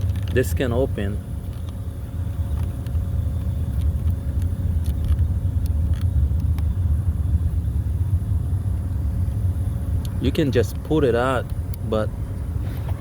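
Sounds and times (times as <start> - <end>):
low rumble: 1.3 - 13.0.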